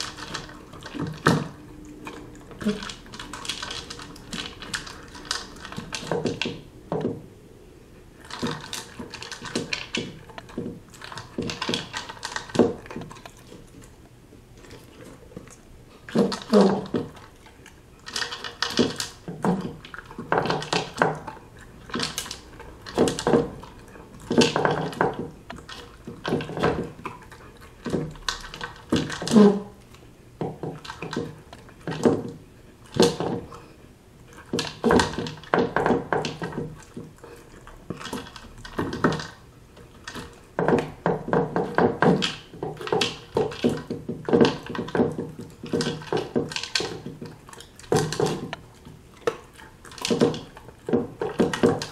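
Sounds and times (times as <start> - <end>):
kibble clattering in plastic bowl: 0.0 - 7.2, 8.2 - 13.8, 18.0 - 29.8, 30.4 - 33.7, 34.4 - 51.9.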